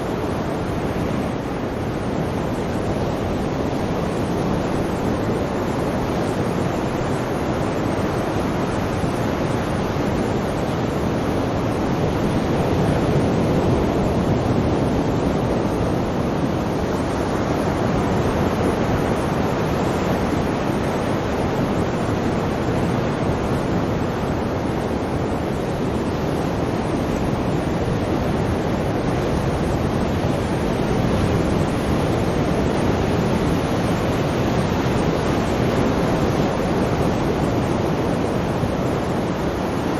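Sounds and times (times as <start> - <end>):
sea waves rushing: 0.0 - 39.9.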